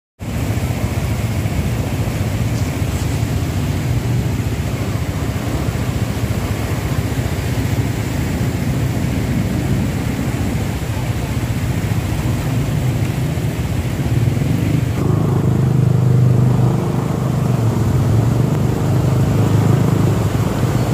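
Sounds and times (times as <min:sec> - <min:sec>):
traffic rumble: 0:00.2 - 0:20.9
vehicles driving through floodwater: 0:00.2 - 0:20.9.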